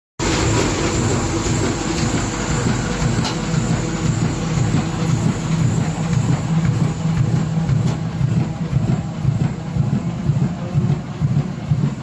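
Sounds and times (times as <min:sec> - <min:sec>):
low machine hum: 0:00.2 - 0:12.0
machine mechanical clatter: 0:00.2 - 0:12.0.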